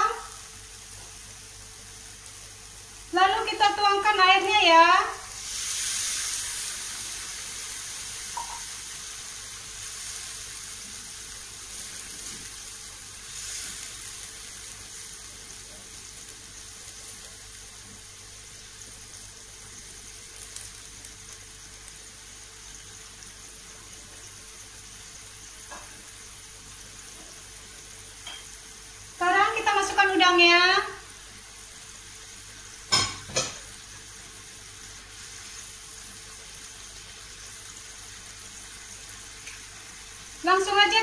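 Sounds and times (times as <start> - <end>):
paste sizzling in a wok: 0.0 - 41.0.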